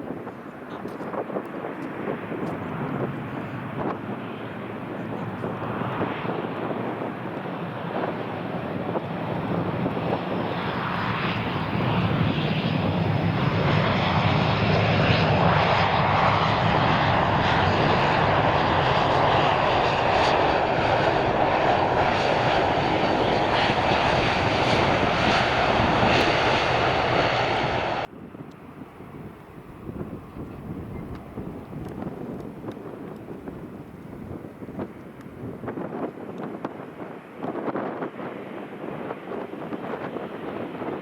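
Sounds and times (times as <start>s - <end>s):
jet engines roaring: 0.0s - 41.0s.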